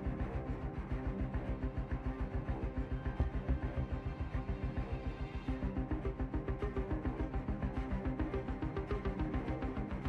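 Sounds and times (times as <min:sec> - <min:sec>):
background music with fast beat: 0:00.0 - 0:10.0.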